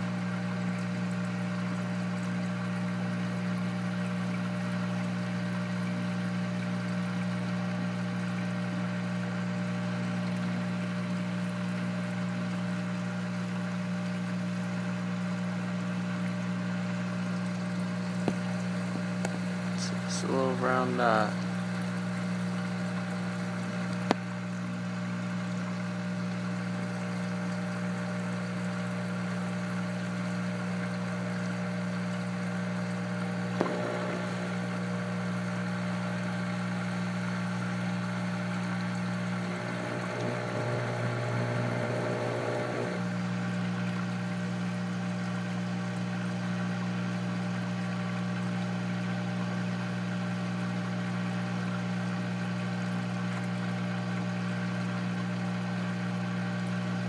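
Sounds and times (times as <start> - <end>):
water pump hum: 0.0 - 57.0
water trickling: 0.3 - 49.1.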